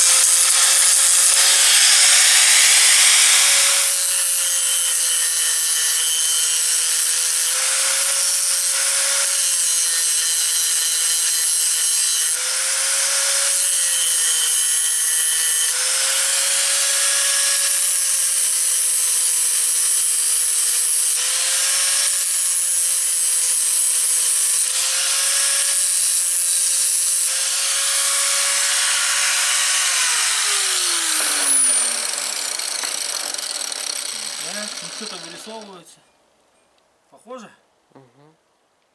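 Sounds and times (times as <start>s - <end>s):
angle grinder grinding metal: 0.0s - 35.9s.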